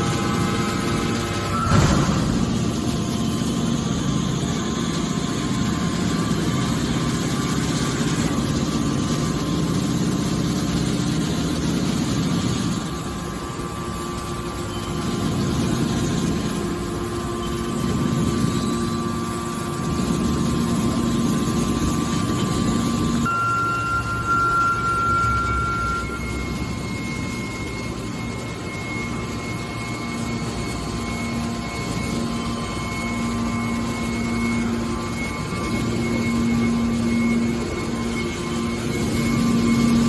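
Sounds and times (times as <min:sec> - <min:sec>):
faint steady whine: 0:00.0 - 0:40.0
hydraulic baler motor drone: 0:00.0 - 0:40.0.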